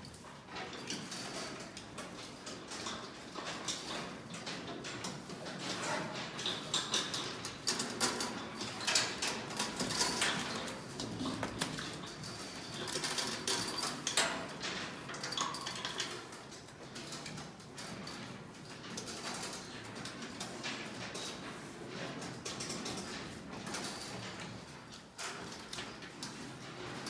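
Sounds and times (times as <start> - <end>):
chain clanking and knocking: 0.0 - 27.0.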